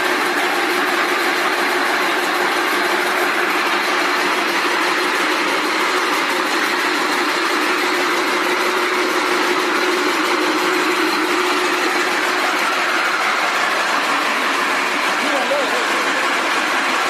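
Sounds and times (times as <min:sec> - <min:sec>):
braiding machines running: 0:00.0 - 0:17.0.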